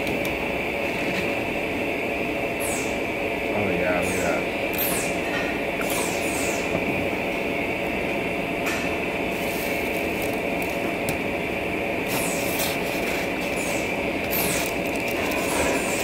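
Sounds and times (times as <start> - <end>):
mechanical drone with high whine: 0.0 - 16.0.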